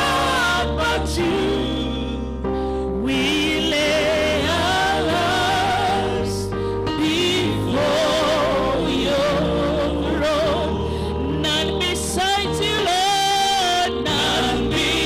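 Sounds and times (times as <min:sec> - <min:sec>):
steady bass: 0:00.0 - 0:15.0
sustained instrumental chords: 0:00.0 - 0:15.0.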